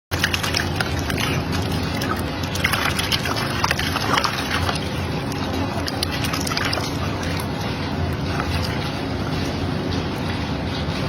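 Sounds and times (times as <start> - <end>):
steady low hum: 0.1 - 11.0
water sloshing and splashing: 0.1 - 11.0.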